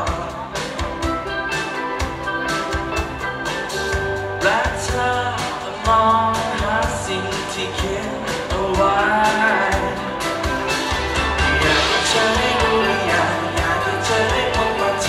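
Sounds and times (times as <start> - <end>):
person singing: 0.0 - 2.6, 4.4 - 15.0
drum kit: 0.0 - 15.0
electric guitars: 0.0 - 15.0
keyboard: 0.0 - 15.0.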